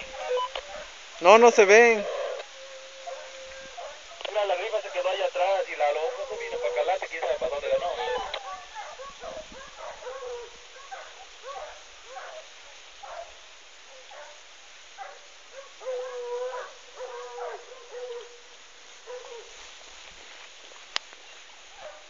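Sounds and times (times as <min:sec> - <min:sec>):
hunting dogs baying and yelping: 0:00.0 - 0:20.4, 0:21.3 - 0:22.0.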